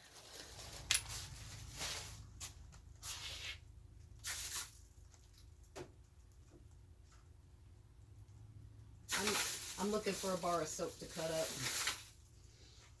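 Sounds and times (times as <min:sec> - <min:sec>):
rustling and handling noise: 0:00.0 - 0:07.6, 0:09.1 - 0:13.0.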